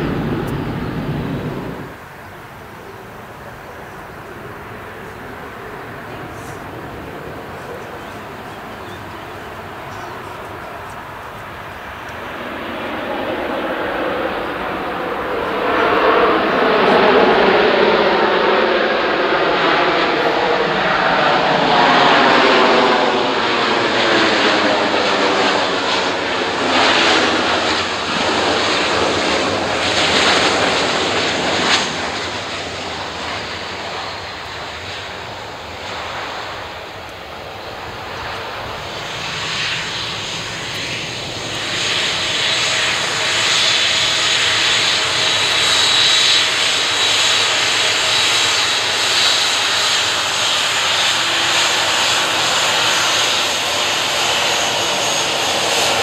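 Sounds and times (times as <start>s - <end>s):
jet engine high whine: 0.0s - 56.0s
jet engines running loud: 0.0s - 56.0s.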